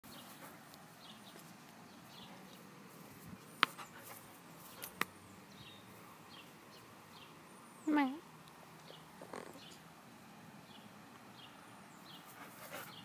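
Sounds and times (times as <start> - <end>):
small birds chirping: 0.1 - 10.0, 10.6 - 13.0.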